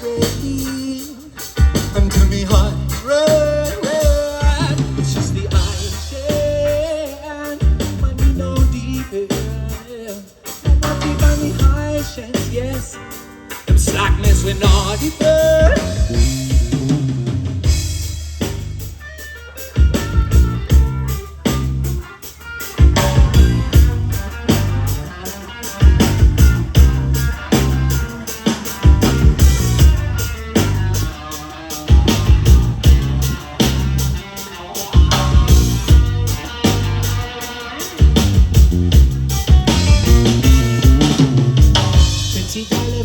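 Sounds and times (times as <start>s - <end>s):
drum kit beat: 0.0s - 43.0s
live reggae band playing: 0.0s - 43.0s.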